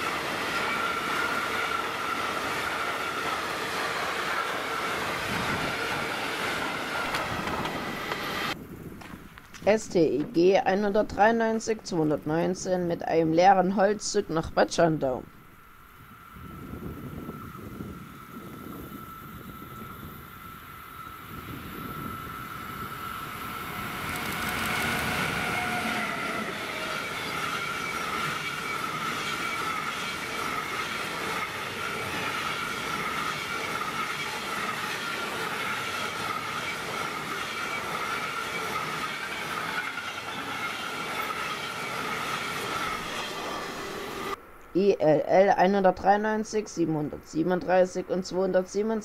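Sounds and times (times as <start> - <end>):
locomotive passing: 0.0 - 49.0.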